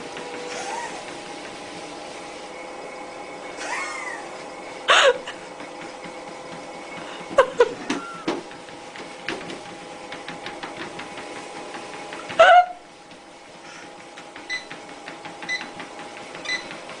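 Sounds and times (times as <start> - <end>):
treadmill belt ticking: 0.0 - 17.0
treadmill motor hum: 0.0 - 17.0.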